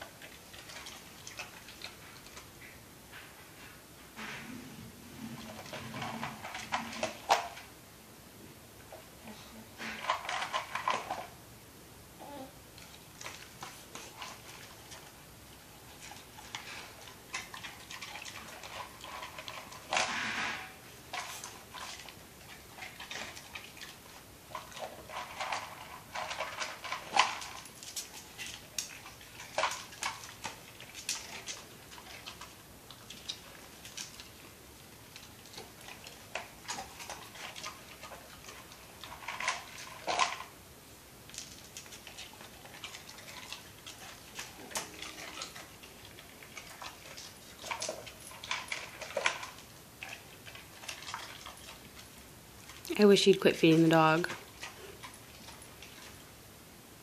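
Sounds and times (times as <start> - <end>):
dog eating off floor: 0.0 - 7.8, 8.7 - 11.5, 12.6 - 57.0.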